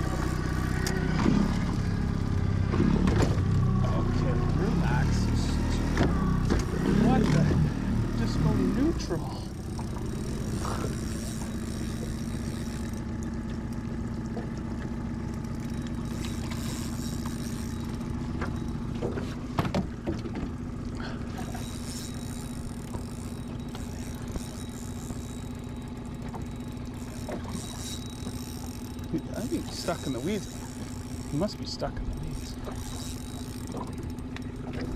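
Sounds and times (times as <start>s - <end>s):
outboard motor idling: 0.0s - 34.9s.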